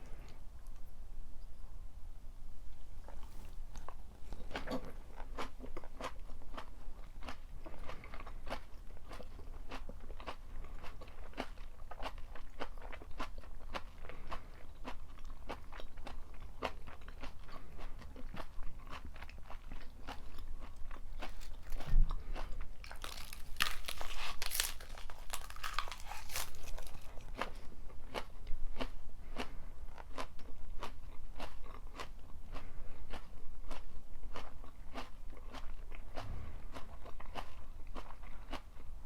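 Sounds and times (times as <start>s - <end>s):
chewing crunchy food: 3.0s - 39.0s.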